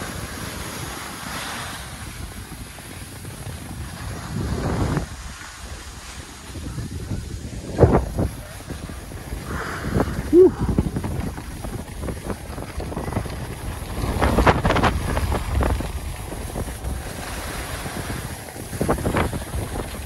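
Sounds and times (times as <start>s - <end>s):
sliding on packed snow: 0.0s - 20.0s
wind buffeting microphone: 0.0s - 20.0s.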